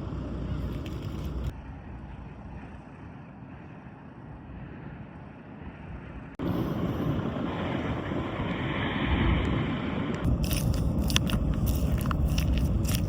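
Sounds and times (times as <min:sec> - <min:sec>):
wind noise on microphone: 0:00.4 - 0:13.0.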